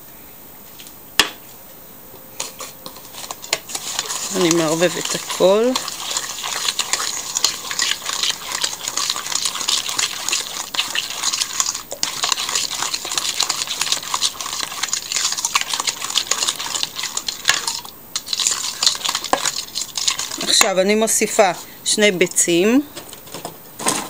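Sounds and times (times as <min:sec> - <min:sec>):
fork beating batter in metal bowl: 0:02.4 - 0:22.5.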